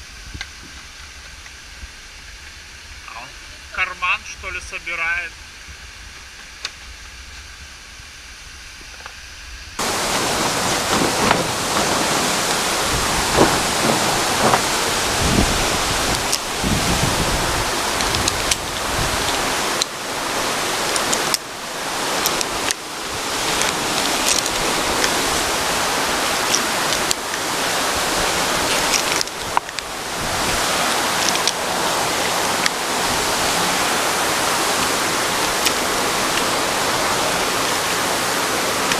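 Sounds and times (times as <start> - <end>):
waterfall roaring: 0.0 - 6.7, 9.8 - 38.9.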